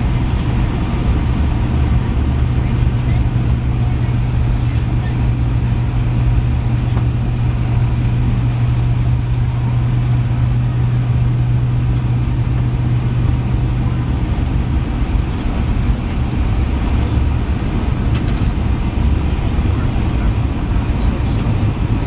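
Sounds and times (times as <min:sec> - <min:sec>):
jet cabin engine drone: 0:00.0 - 0:22.0.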